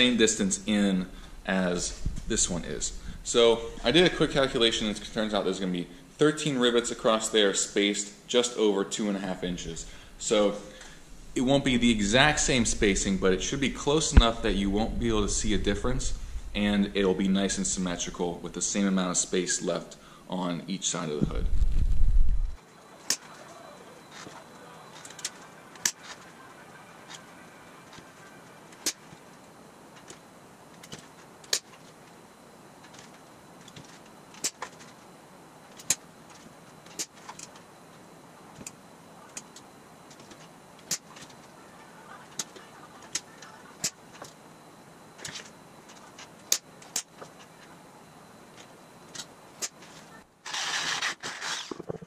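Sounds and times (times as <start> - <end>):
faint steady hiss: 0.0 - 52.0.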